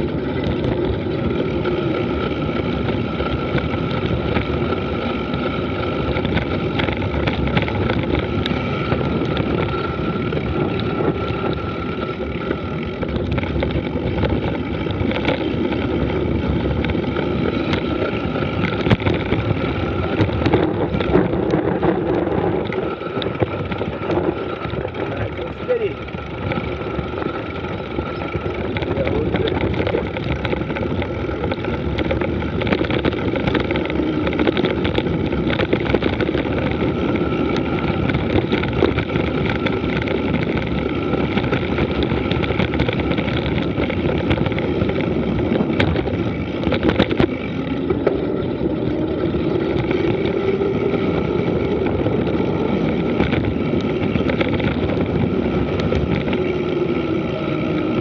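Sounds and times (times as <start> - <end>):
bike rattling and knocking: 0.0 - 58.0
bike tyres rolling on gravel: 0.0 - 58.0
wind on microphone: 0.0 - 58.0.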